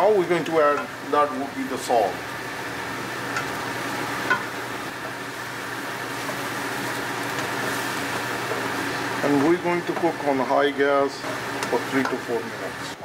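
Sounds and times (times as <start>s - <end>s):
onion paste sizzling in oil: 0.0s - 13.0s.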